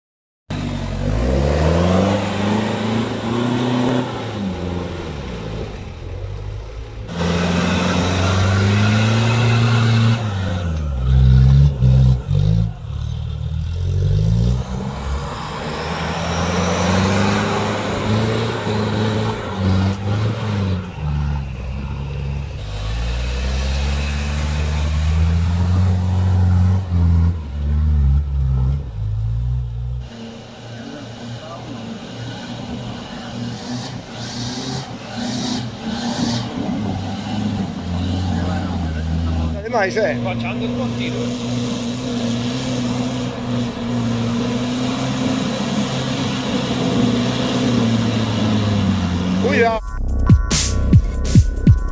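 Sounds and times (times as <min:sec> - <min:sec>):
off-road engines revving: 0:00.5 - 0:51.3.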